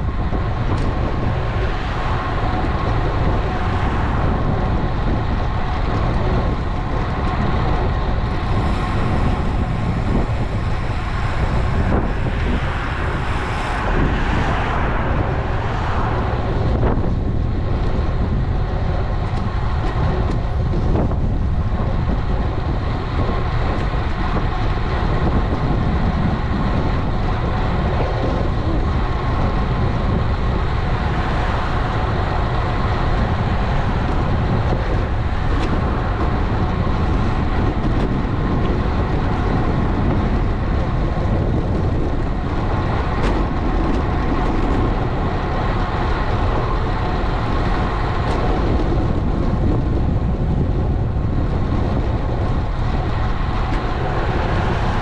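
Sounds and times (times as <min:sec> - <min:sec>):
road and traffic noise: 0:00.0 - 0:55.0
wind rushing over microphone: 0:00.0 - 0:55.0.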